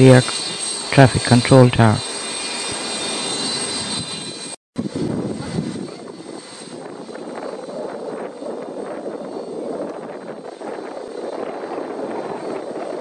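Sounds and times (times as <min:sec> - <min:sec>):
aircraft turbine whine: 0:00.0 - 0:13.0.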